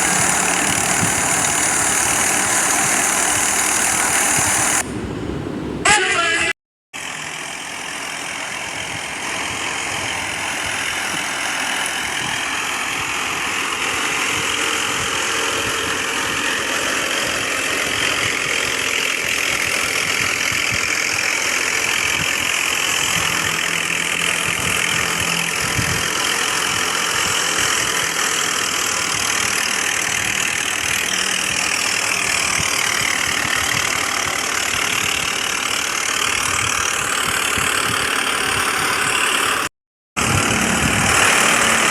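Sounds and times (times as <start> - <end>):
tractor engine driving thresher: 0.0 - 5.1, 5.8 - 41.9.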